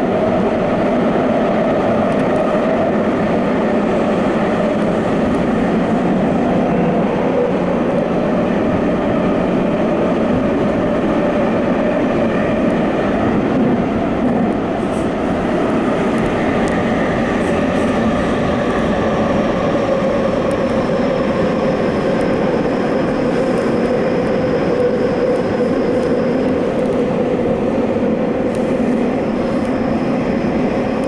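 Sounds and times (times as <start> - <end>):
subway train rolling rumble: 0.0 - 31.0.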